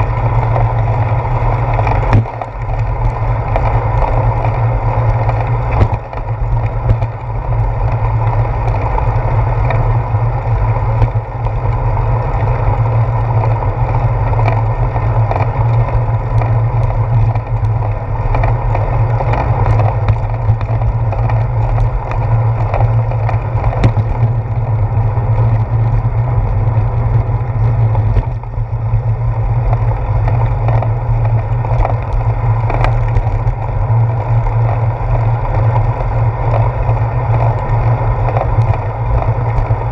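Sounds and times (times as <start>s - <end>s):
bicycle road vibration: 0.0s - 39.9s
wind rumble: 0.0s - 39.9s.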